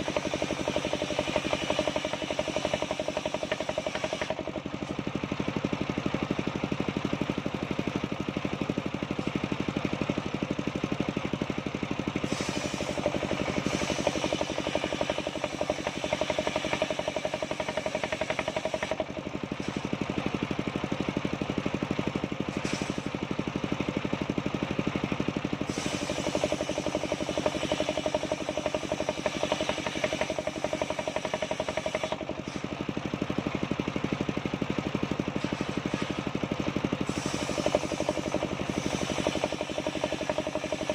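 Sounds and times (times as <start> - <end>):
saw blade cutting logs: 0.0 - 23.4, 25.5 - 33.3, 34.8 - 40.9
sawmill engine drone: 0.0 - 40.9.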